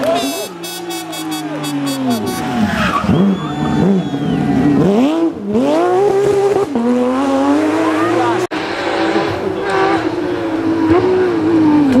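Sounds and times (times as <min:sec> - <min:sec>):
racing car engine revving: 0:00.0 - 0:12.0.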